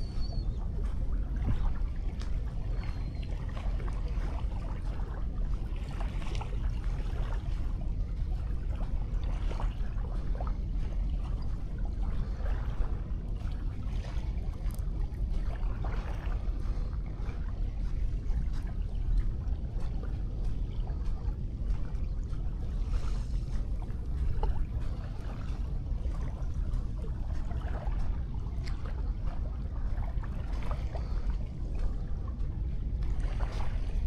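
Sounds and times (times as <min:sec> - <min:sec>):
waves lapping on beach: 0:00.0 - 0:34.0.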